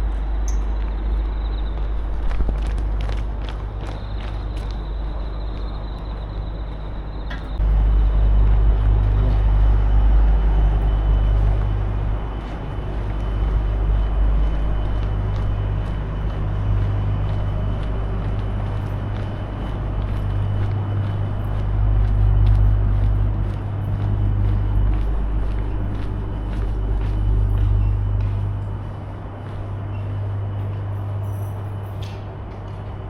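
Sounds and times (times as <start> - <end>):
low engine drone: 0.0 - 33.0.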